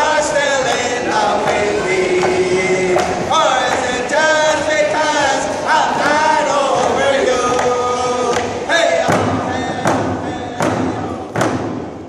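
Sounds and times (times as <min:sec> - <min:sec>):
men singing in chorus: 0:00.0 - 0:11.2.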